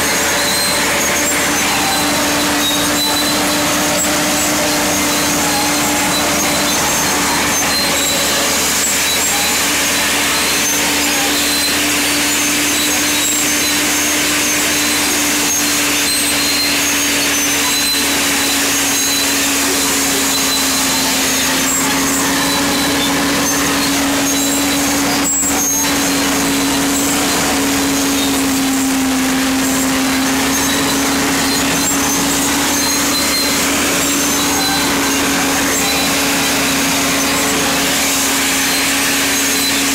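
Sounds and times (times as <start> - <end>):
diesel engine droning: 0.0 - 39.9
high squeaks and clicks: 0.0 - 39.9.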